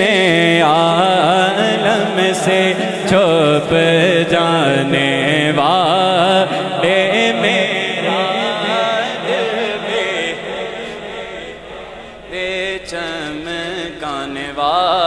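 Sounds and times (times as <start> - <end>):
steady held drone: 0.0 - 15.0.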